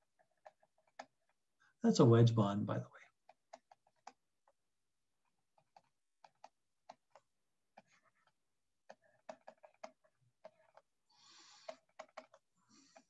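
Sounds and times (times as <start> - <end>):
faint clicks and taps: 0.0 - 1.8, 2.9 - 13.0.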